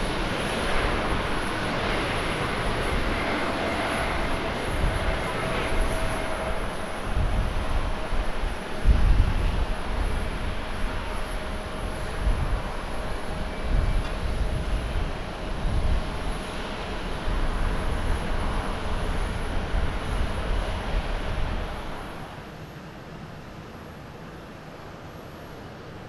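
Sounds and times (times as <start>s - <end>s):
jet engine rumble: 0.0s - 26.0s.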